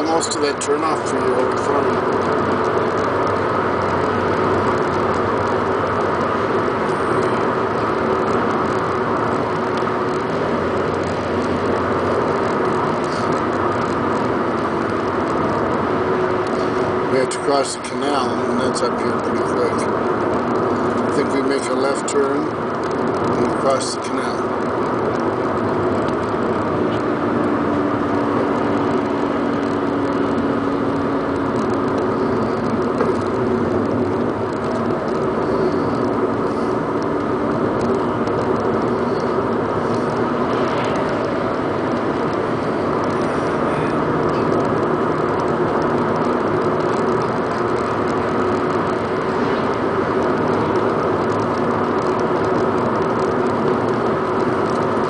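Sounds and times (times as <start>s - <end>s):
low engine drone: 0.0s - 55.0s
road noise inside car: 0.0s - 55.0s.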